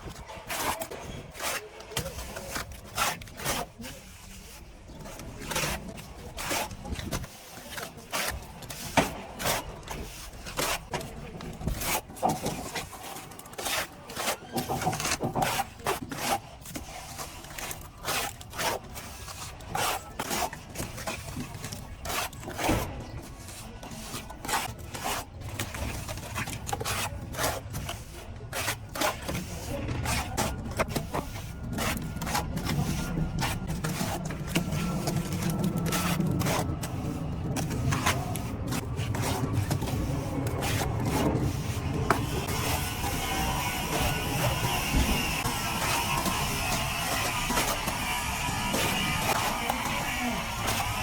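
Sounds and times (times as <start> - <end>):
plastering tools scraping and tapping: 0.0 - 51.0.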